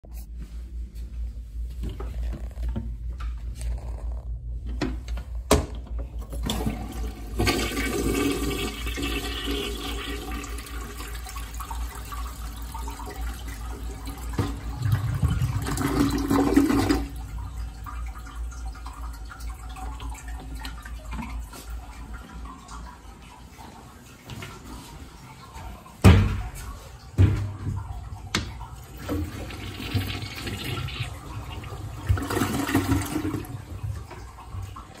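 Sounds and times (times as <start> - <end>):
toilet flushing water: 1.8 - 35.0.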